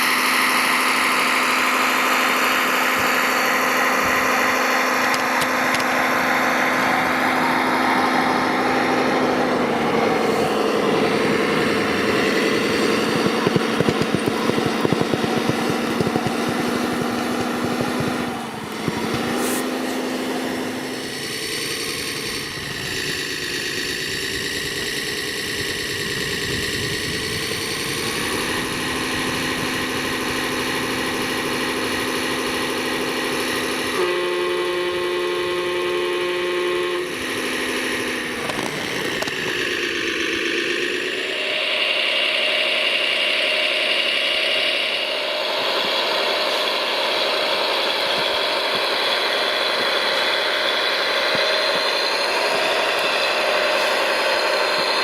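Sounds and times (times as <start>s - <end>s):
toy machine engines revving: 0.0s - 55.0s.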